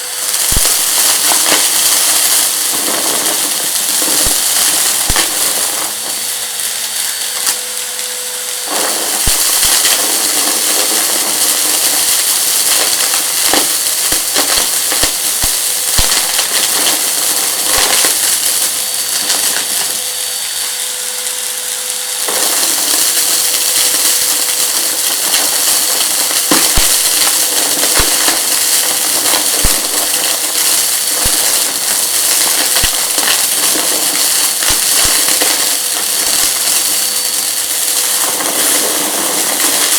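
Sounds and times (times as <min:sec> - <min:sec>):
debris crackling in vacuum: 0:00.0 - 0:39.9
vacuum cleaner running: 0:00.0 - 0:39.9.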